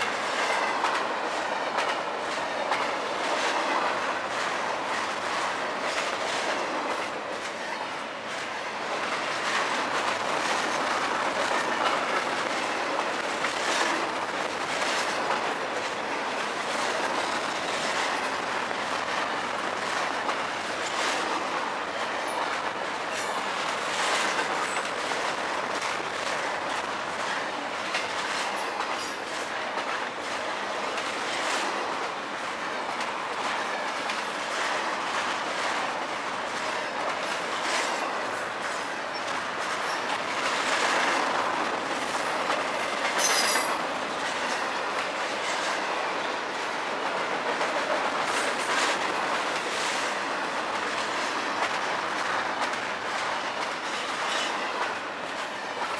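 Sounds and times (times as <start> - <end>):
freight train wheels on rail: 0.0 - 55.9
rail clicks: 0.0 - 55.9.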